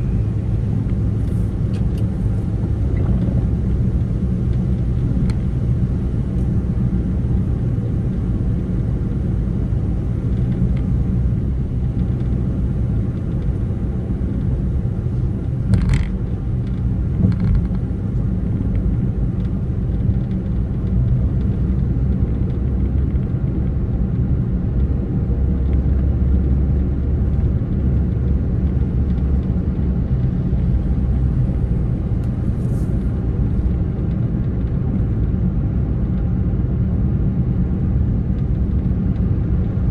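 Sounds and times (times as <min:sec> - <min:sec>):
vehicle driving on road: 0:00.0 - 0:39.9.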